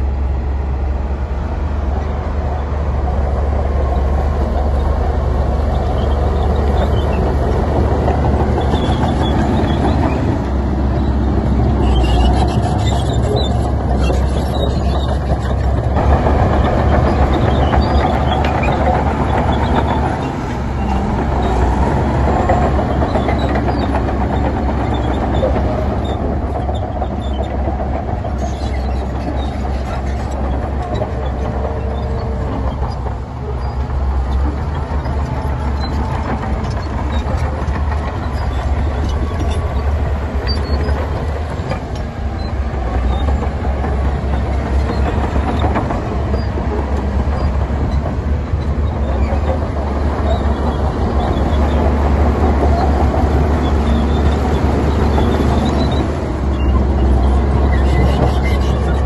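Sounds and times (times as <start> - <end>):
heavy diesel machinery rumbling: 0.0 - 59.0.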